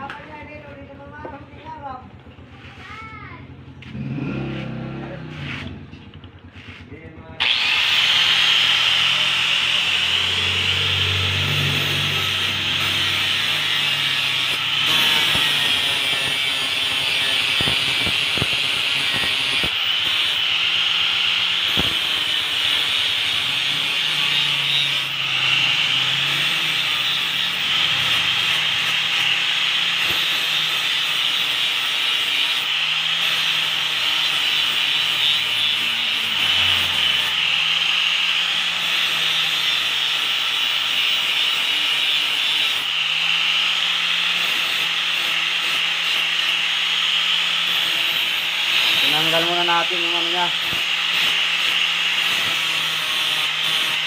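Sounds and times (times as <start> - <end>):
angle grinder grinding steel: 3.8 - 54.0.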